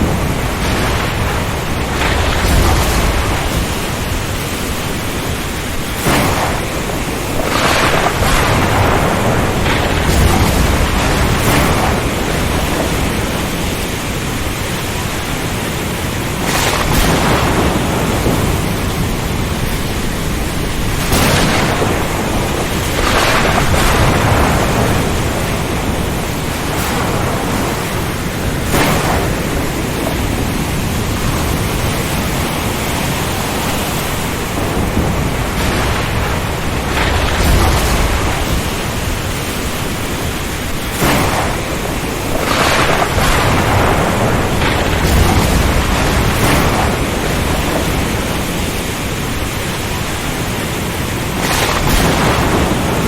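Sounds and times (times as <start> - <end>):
rain: 0.0 - 53.0
surf: 0.0 - 53.0
thunder cracks: 0.0 - 53.0
wind: 0.0 - 53.0.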